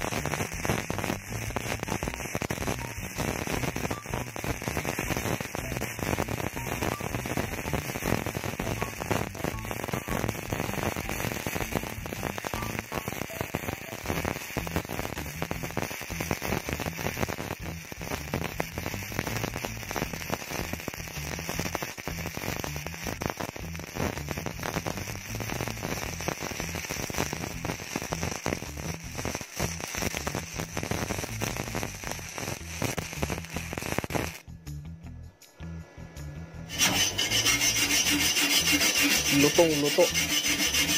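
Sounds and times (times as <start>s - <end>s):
welding arc crackling: 0.0s - 34.8s, 36.7s - 40.9s.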